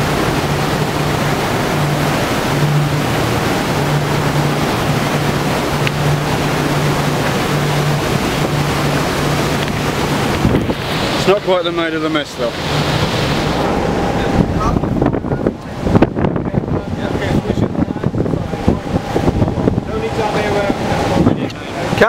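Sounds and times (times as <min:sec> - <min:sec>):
low hum: 0:00.0 - 0:22.0
water rushing and churning: 0:00.0 - 0:22.0.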